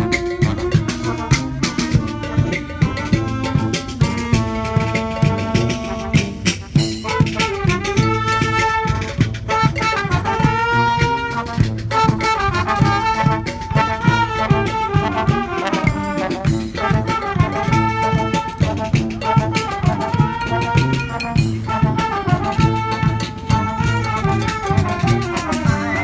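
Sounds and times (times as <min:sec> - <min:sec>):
brass band horn melody: 0:00.0 - 0:26.0
steady drum beat: 0:00.0 - 0:26.0.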